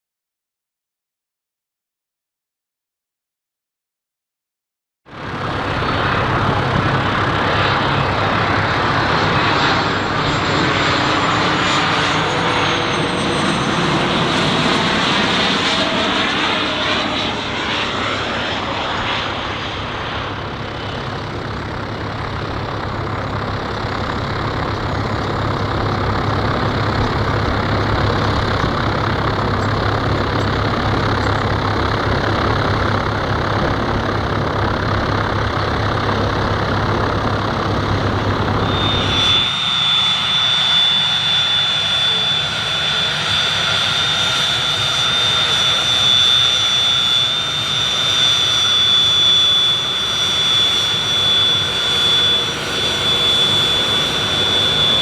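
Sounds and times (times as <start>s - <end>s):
jet engine whine and rumble: 5.1s - 55.0s.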